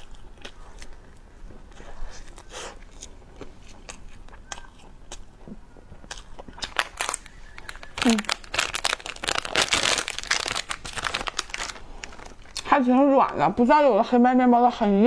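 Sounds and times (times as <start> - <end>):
biting and chewing bread: 0.0 - 12.7.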